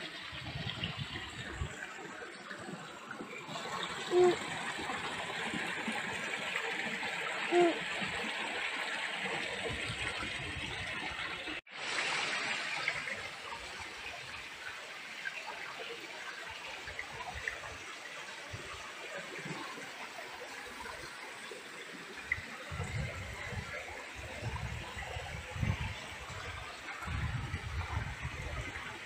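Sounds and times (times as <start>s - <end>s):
stream trickling over rocks: 0.0s - 29.0s.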